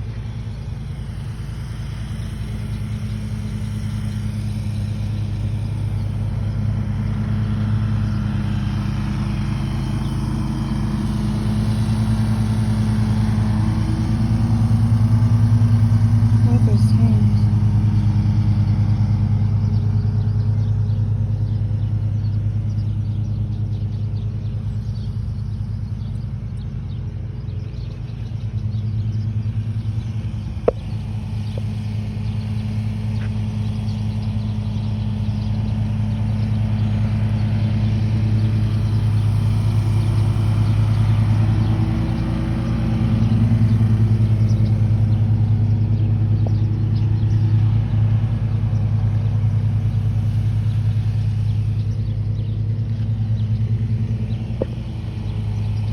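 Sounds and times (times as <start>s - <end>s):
motor idling hum: 0.0s - 55.9s.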